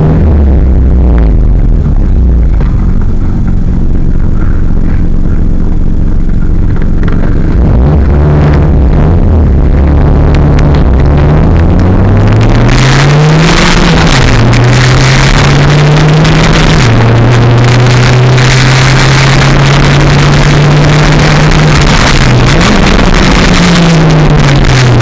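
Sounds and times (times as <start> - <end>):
car engine running under load: 0.0 - 25.0.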